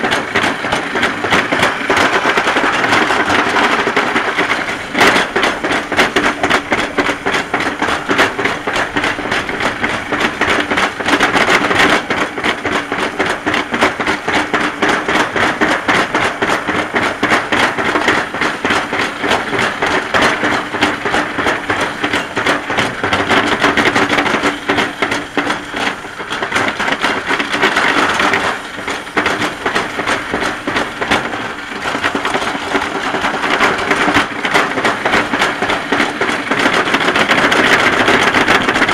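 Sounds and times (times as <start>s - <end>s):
toboggan sled rattling on metal track: 0.0s - 38.9s.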